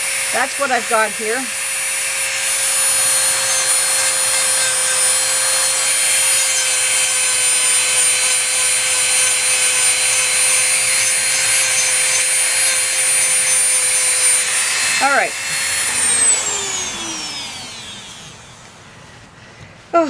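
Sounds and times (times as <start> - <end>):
rotary tool grinding paint: 0.0 - 18.8.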